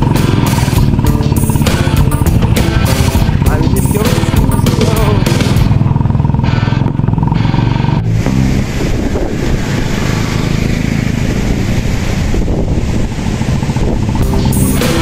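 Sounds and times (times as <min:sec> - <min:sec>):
motorcycle engines running: 0:00.0 - 0:15.0
motorcycles passing by: 0:00.0 - 0:15.0.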